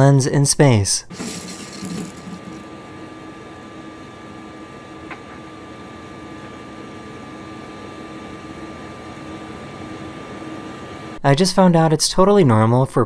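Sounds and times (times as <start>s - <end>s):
constant hum tone: 0.0s - 13.0s
ventilation fans whirring: 0.0s - 13.0s.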